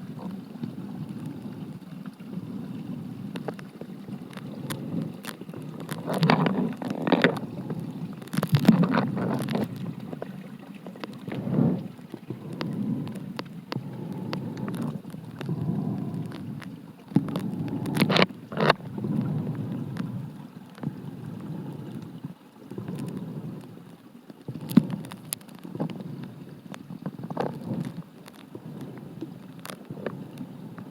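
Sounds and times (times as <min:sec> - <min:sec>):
muffled underwater water surging: 0:00.0 - 0:30.9.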